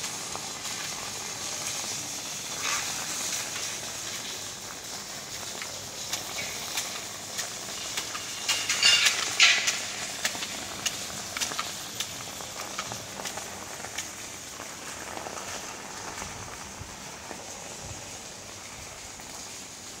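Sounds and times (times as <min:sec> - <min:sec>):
heavy rain falling on a car: 0:00.0 - 0:20.0.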